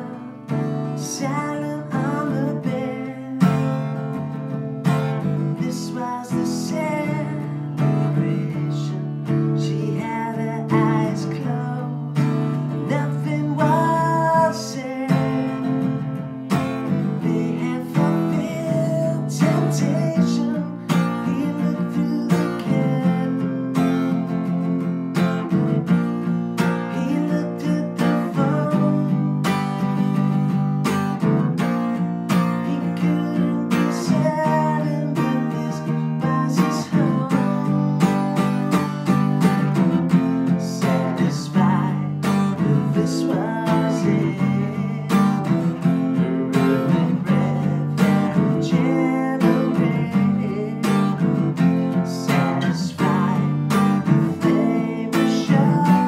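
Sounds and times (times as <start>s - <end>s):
man singing: 0.0s - 24.4s, 26.6s - 30.0s, 31.6s - 56.0s
acoustic guitar strumming chords: 0.0s - 56.0s.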